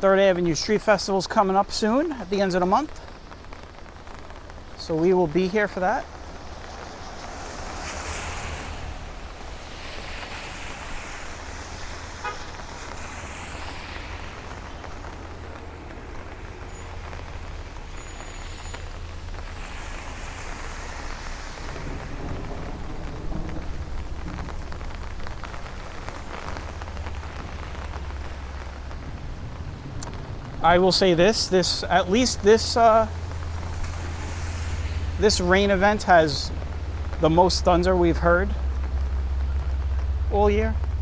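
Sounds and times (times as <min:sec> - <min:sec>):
steady rain: 0:00.0 - 0:41.0
tyres hissing on wet road: 0:00.0 - 0:41.0
low rumble: 0:02.9 - 0:41.0.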